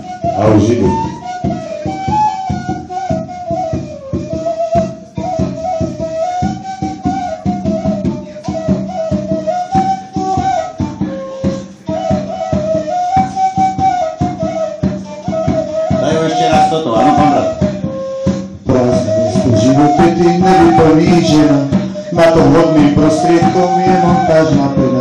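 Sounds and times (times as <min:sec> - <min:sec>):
percussion beat: 0:00.0 - 0:25.0
sliding melody line: 0:00.0 - 0:25.0.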